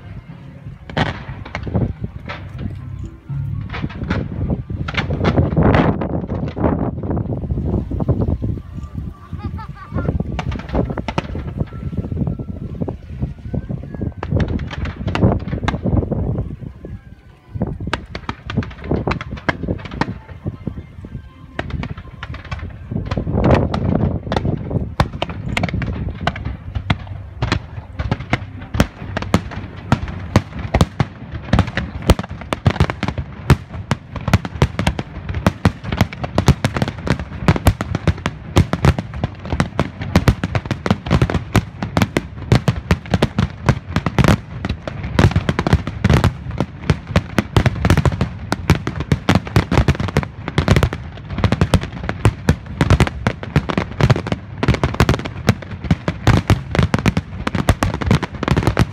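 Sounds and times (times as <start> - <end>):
fireworks bangs: 0.0 - 8.8, 9.4 - 13.2, 13.8 - 16.6, 17.8 - 20.8, 21.5 - 58.9.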